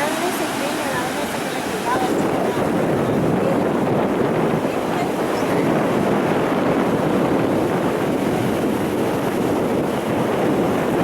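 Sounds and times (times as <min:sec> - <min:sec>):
sea surf rushing: 0:00.0 - 0:11.0
wind on microphone: 0:00.0 - 0:11.0.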